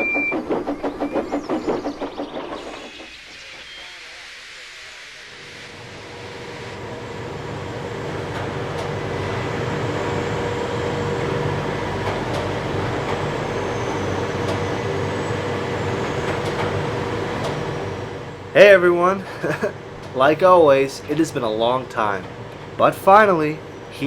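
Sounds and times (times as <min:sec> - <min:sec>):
low hum: 0:00.0 - 0:24.0
train running: 0:00.0 - 0:24.0.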